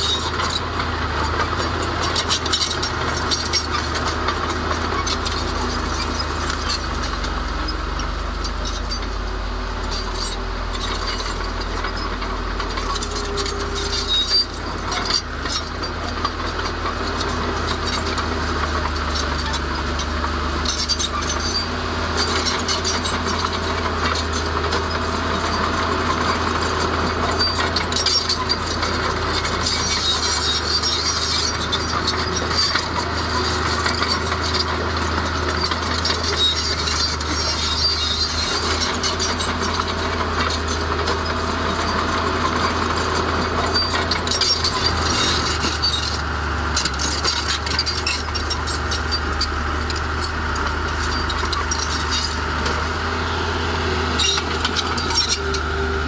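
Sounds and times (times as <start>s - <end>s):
diesel engine drone: 0.0s - 56.0s
clinking and scraping: 9.8s - 53.2s, 54.2s - 56.0s.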